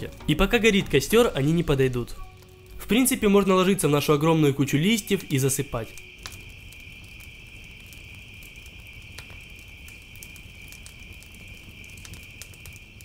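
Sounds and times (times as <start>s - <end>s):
campfire crackling and popping: 0.0s - 13.0s
night insects chirring: 0.0s - 13.0s.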